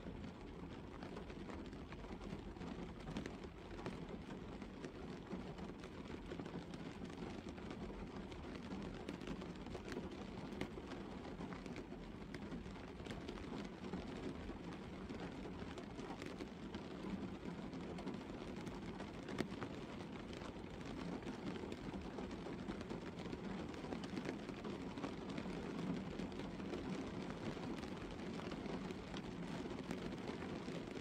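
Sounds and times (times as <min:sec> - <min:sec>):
rain pattering on a car roof: 0:00.0 - 0:31.0.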